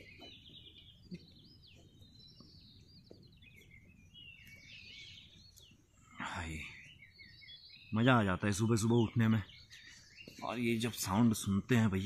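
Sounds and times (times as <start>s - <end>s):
small birds chirping and warbling: 0.0s - 12.0s.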